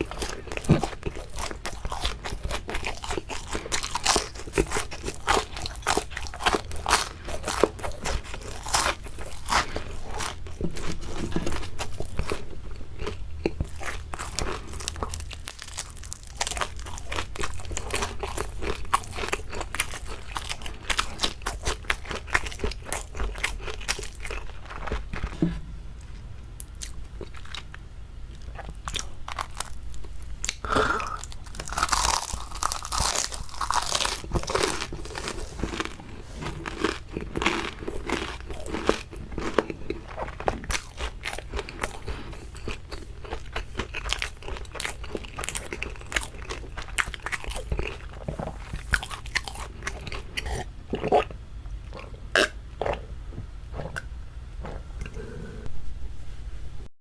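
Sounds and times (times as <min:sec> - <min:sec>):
crunchy biting and chewing: 0:00.0 - 0:53.1.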